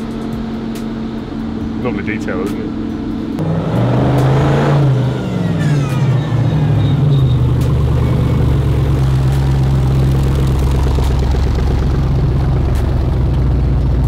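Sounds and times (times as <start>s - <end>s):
deeper engine idle: 0.0s - 3.4s, 5.2s - 14.0s
car engine starting and idling: 0.0s - 14.0s.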